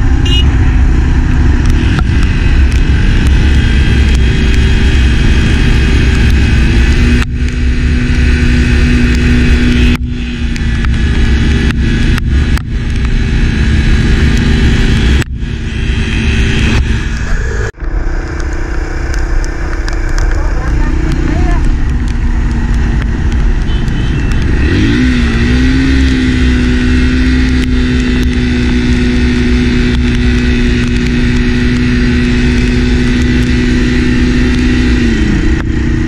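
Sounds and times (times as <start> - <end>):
motorcycle engine running: 0.0 - 36.0
wind rumble on microphone: 0.0 - 36.0.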